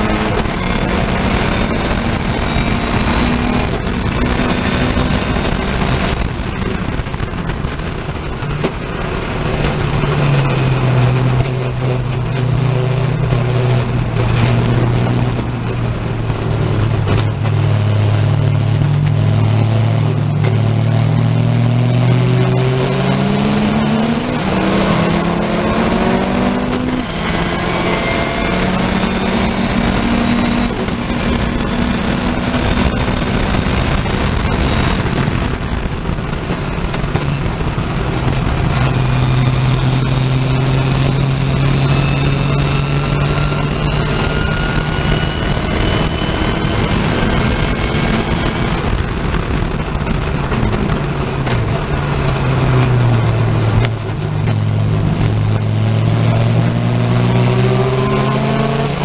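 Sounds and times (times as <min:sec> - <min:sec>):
gear change: 0:00.0 - 0:59.0
race car engine: 0:00.0 - 0:59.0.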